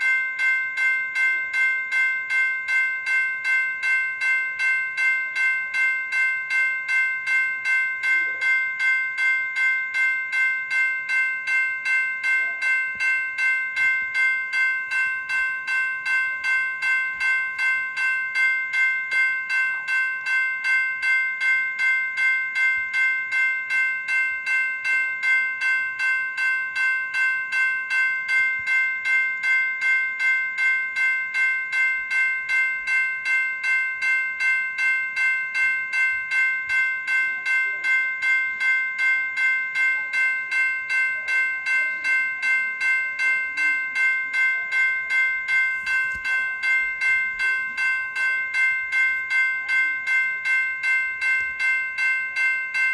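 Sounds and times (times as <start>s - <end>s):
electronic crossing bell ringing: 0.0s - 52.9s.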